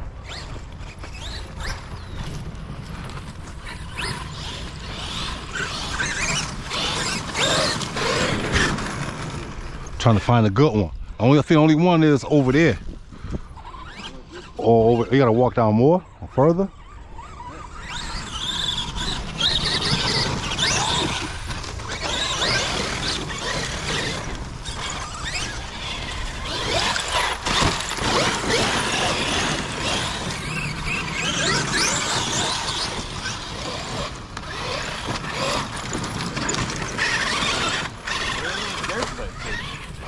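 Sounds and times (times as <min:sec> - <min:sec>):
rc truck motor whining: 0:00.0 - 0:10.0, 0:12.4 - 0:40.0.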